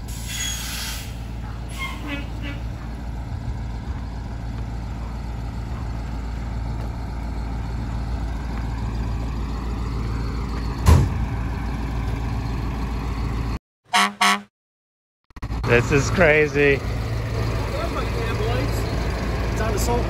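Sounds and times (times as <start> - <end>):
fire engine running: 0.0 - 14.4, 15.4 - 20.0.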